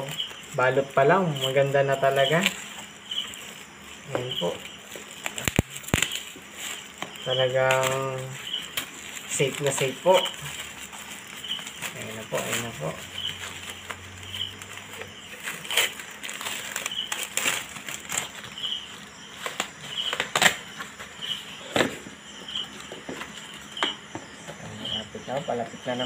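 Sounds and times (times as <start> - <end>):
bubble wrap and cardboard crinkling: 0.0 - 25.1.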